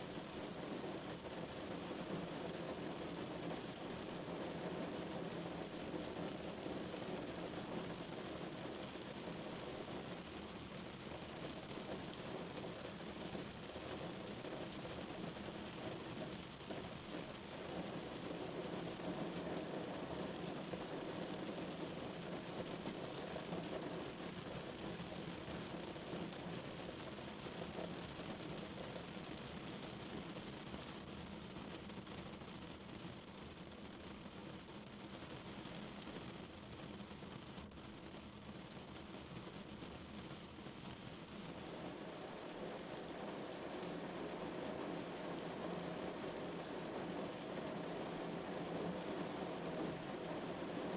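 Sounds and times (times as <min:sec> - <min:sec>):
rain pattering on a car: 0:00.0 - 0:50.9.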